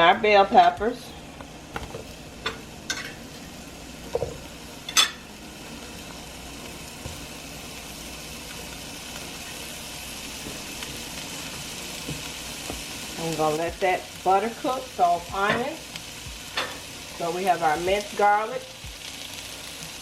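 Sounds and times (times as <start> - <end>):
vegetables sizzling in butter: 0.0 - 20.0.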